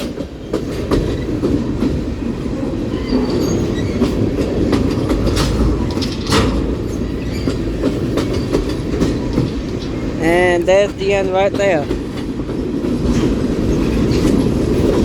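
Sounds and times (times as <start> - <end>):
train wheels rumbling on rail: 0.0 - 15.0
wheels clacking over rail joints: 0.0 - 15.0.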